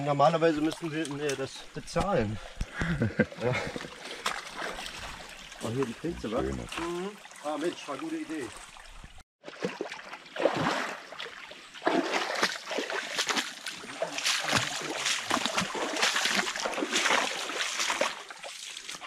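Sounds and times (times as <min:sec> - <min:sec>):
running water: 0:00.2 - 0:19.0
footsteps splashing in a stream: 0:00.6 - 0:19.0.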